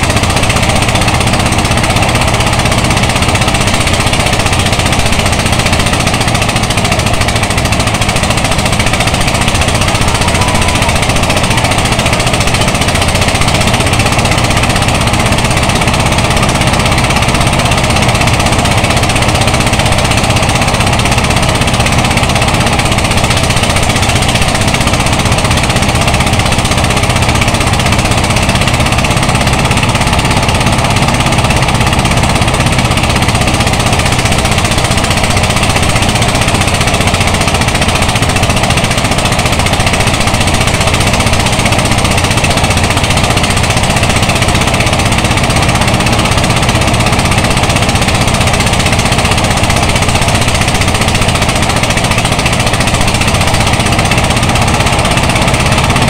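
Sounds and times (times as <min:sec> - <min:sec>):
rice thresher rattling: 0:00.0 - 0:56.0.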